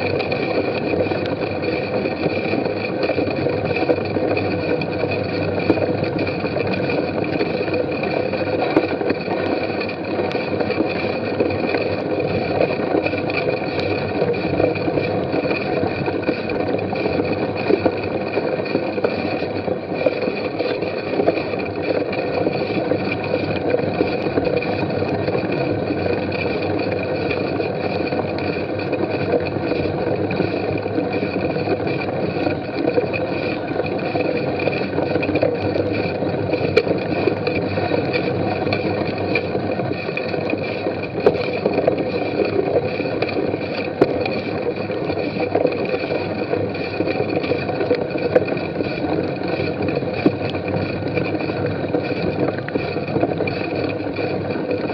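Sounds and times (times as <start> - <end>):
bicycle rolling and rattling on grass: 0.0 - 54.9.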